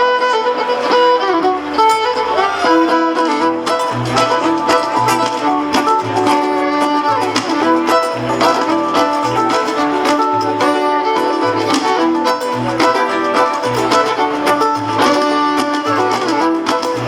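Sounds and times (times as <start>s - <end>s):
fiddle melody: 0.0s - 17.0s
plucked banjo: 0.0s - 17.0s
acoustic guitar: 1.8s - 17.0s
bass notes: 2.6s - 17.0s.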